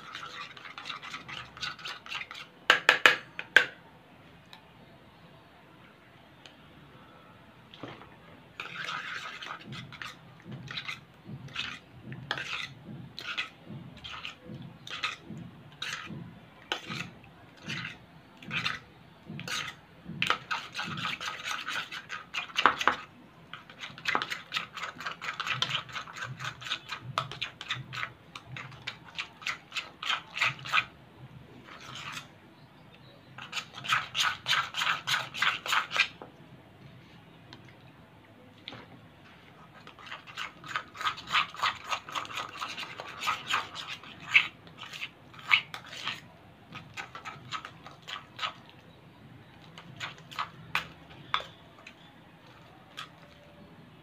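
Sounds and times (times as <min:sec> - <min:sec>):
metal spoon scraping a bowl: 0:00.0 - 0:03.7, 0:08.6 - 0:30.9, 0:31.6 - 0:36.2, 0:39.6 - 0:53.4.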